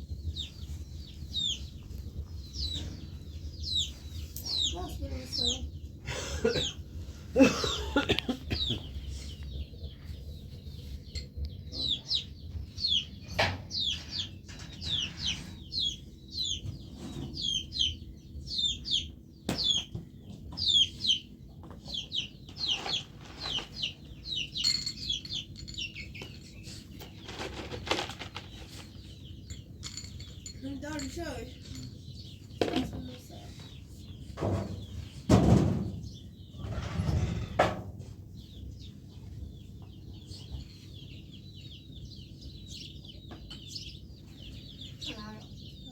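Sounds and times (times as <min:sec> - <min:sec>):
chickens chirping: 0:00.0 - 0:45.9.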